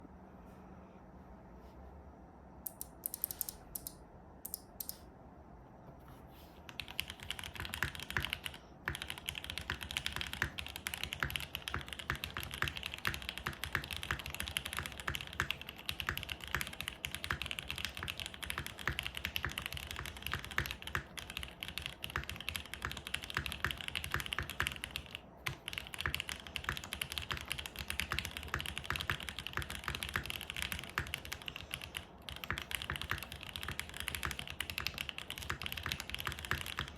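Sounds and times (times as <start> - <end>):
typing on mechanical keyboard: 2.7 - 5.0, 6.7 - 36.9.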